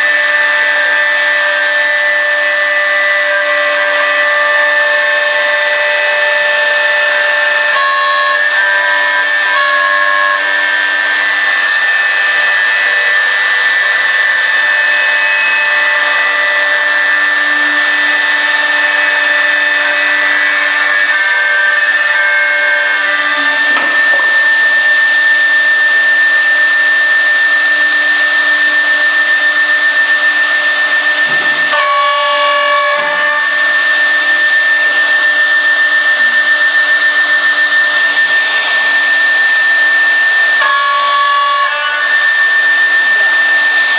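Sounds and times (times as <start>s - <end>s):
router spindle whining cutting wood: 0.0s - 43.9s.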